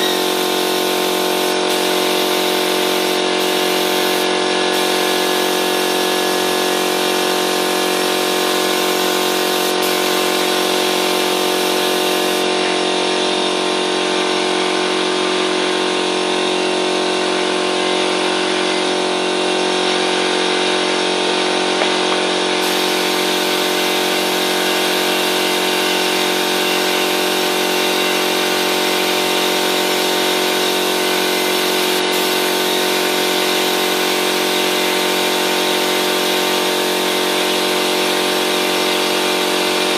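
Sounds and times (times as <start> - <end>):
air compressor humming and hissing: 0.0 - 39.9.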